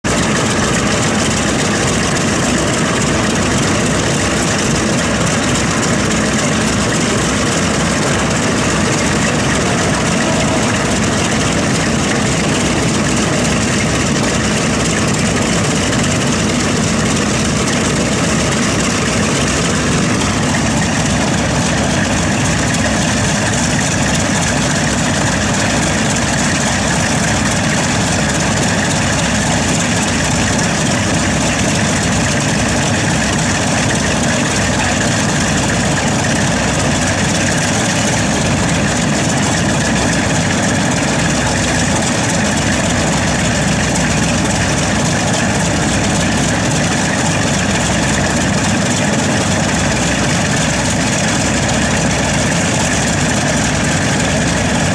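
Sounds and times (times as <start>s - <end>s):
radial aircraft engines idling: 0.0s - 54.9s.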